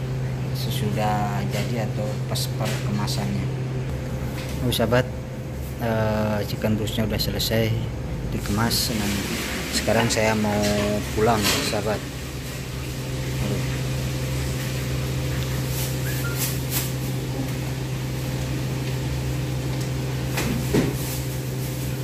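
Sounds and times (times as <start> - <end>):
low mechanical hum of equipment: 0.0 - 22.0.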